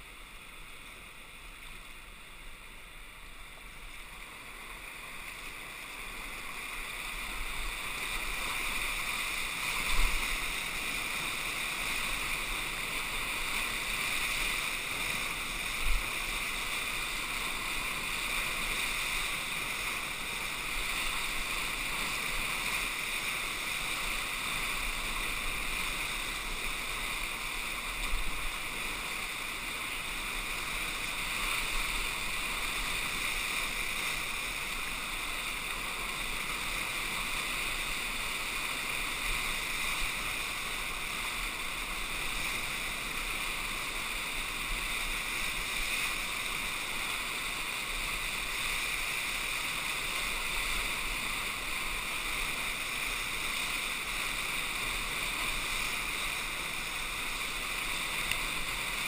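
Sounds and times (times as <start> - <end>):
whitewater rapids rushing: 0.0 - 59.0.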